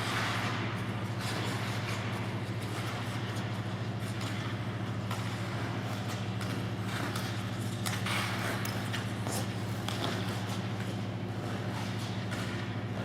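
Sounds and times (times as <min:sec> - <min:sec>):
skate blades scraping on ice: 0:01.2 - 0:04.6, 0:05.2 - 0:13.0.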